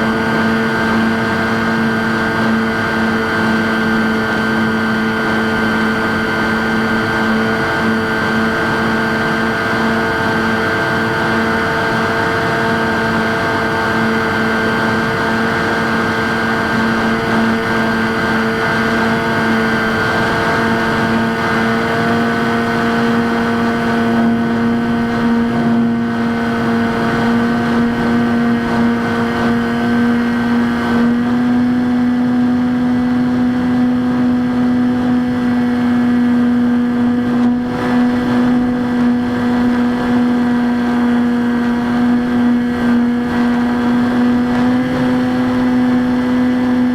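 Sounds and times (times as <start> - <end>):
electric motor and propeller drone: 0.0 - 46.9.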